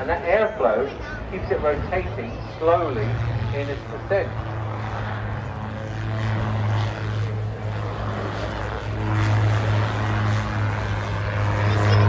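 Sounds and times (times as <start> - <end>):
autogyro engine drone: 0.0 - 12.0.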